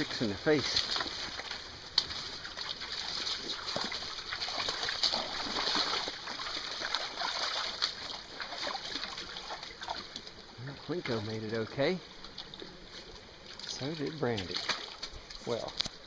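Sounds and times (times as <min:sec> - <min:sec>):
splashing through creek: 0:00.0 - 0:16.0
stream running water: 0:00.0 - 0:16.0.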